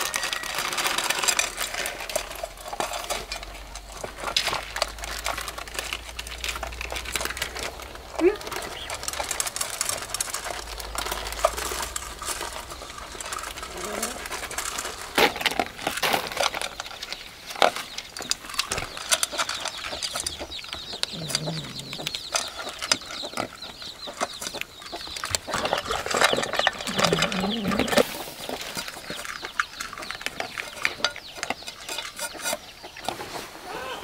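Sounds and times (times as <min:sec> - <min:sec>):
kibble clicking against a bowl: 0:00.0 - 0:33.1
animals crunching dry kibble: 0:00.0 - 0:34.0
chickens clucking: 0:06.3 - 0:34.0.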